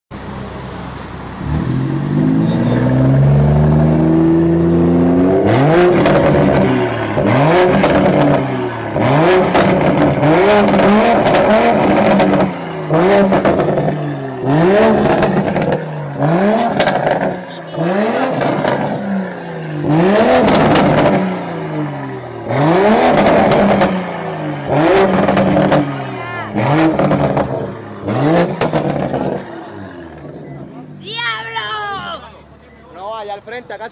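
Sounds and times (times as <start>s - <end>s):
car engine revving: 0.2s - 31.0s.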